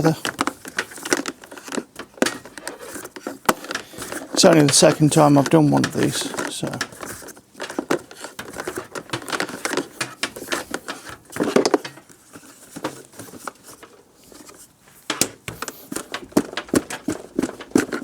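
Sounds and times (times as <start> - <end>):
tool clicking and scraping on plastic: 0.0 - 18.0.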